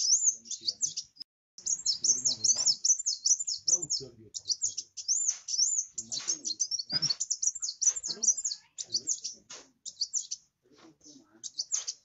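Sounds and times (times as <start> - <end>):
bird twittering chirps and trills: 0.0 - 12.0.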